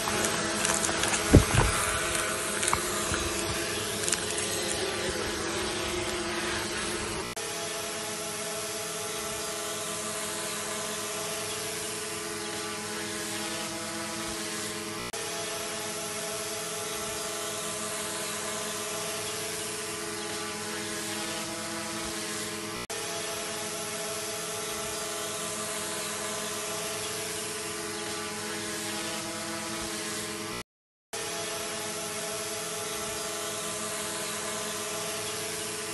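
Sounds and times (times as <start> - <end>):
drone propellers buzzing: 0.0 - 30.6, 31.2 - 35.9.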